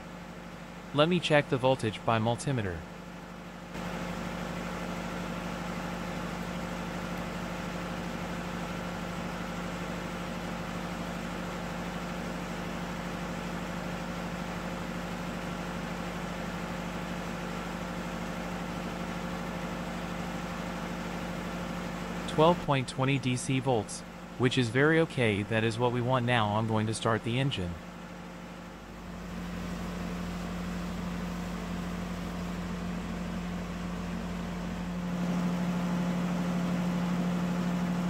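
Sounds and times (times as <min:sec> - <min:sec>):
electric fuel pump humming: 0:00.0 - 0:38.0.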